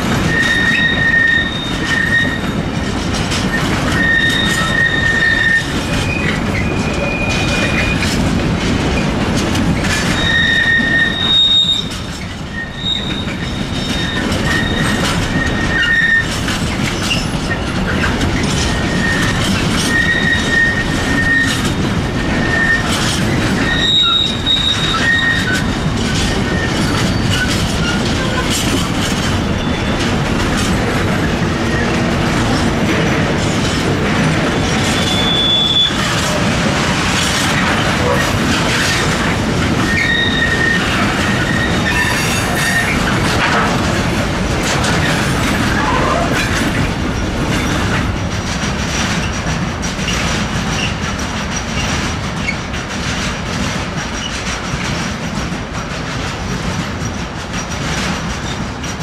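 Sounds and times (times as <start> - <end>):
train wheels rumbling and clacking: 0.0 - 59.0.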